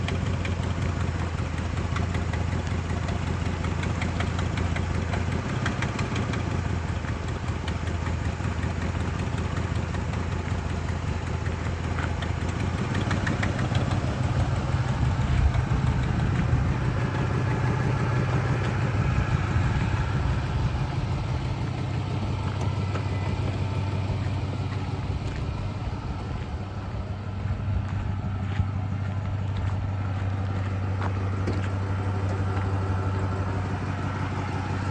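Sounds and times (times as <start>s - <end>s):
pickup engine idling: 0.0s - 34.9s.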